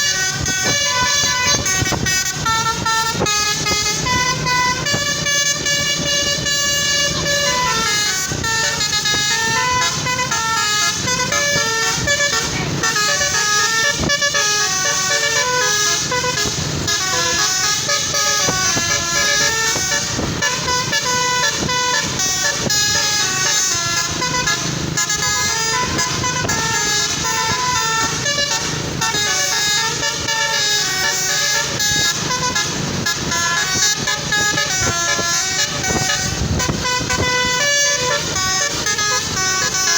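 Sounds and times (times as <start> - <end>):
multi-tone bus horn melody: 0.0 - 39.9.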